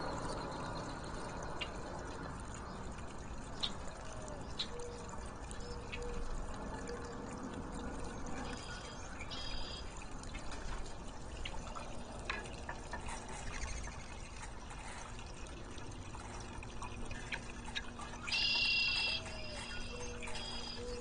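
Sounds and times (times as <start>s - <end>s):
water feature trickling: 0.0s - 21.0s.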